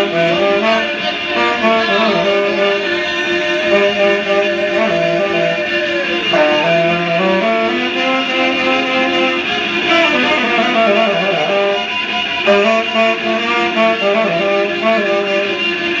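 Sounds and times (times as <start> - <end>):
tenor saxophone: 0.0 - 16.0
violin: 0.0 - 16.0.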